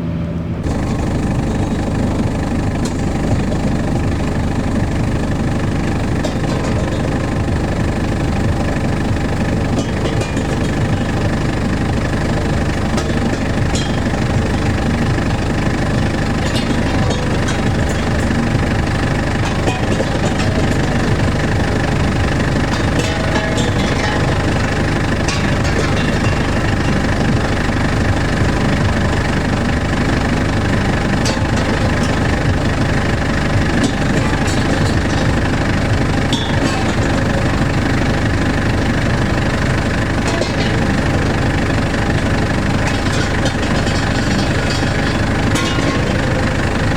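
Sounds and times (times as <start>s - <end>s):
heavy engine droning: 0.0s - 46.9s.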